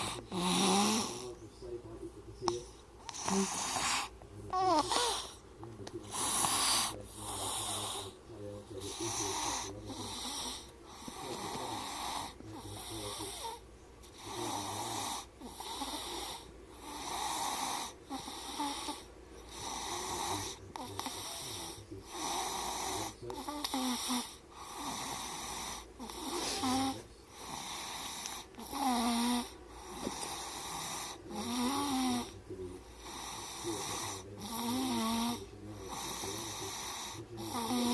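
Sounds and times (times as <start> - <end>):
baby snoring: 0.0 - 1.5, 2.5 - 5.4, 6.0 - 37.9.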